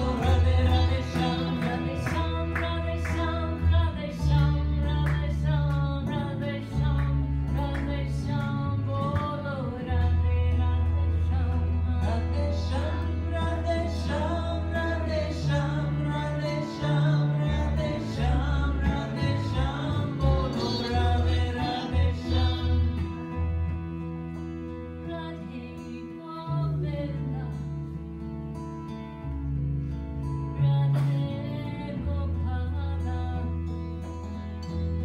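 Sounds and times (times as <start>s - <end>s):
harmonium: 0.0s - 35.0s
low bass line: 0.0s - 35.0s
sitar: 0.0s - 35.0s
strummed acoustic guitar: 0.0s - 35.0s.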